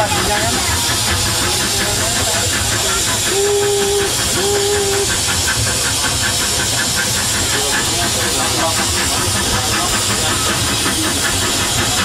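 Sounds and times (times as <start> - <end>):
locomotive chuffing beat: 0.0 - 12.0
steam hissing: 0.0 - 12.0.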